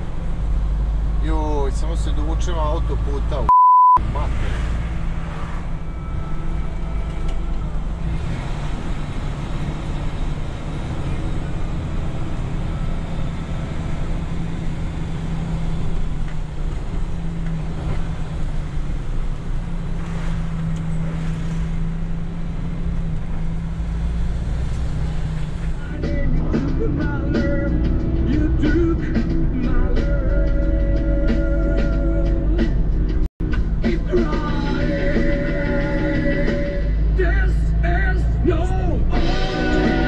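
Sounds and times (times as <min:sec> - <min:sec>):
lorry diesel engine droning: 0:00.0 - 0:40.0
road noise inside cab: 0:00.0 - 0:40.0.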